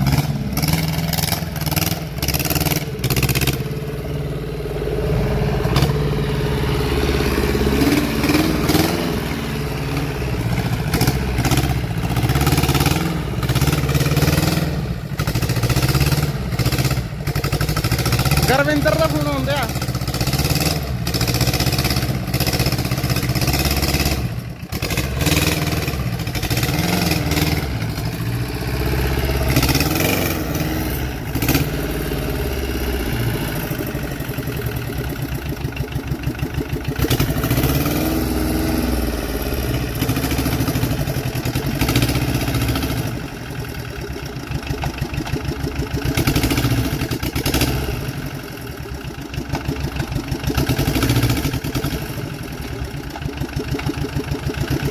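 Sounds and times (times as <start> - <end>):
small tractor engine running: 0.0 - 54.9.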